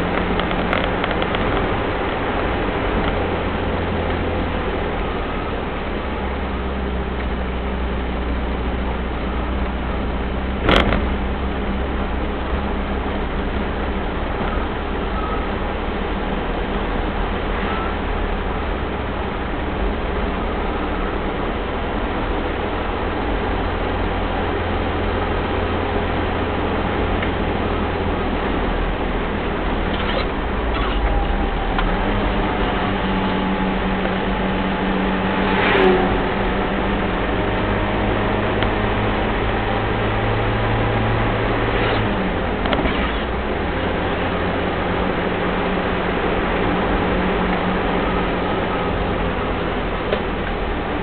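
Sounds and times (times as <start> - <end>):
car engine and road drone: 0.0 - 51.0.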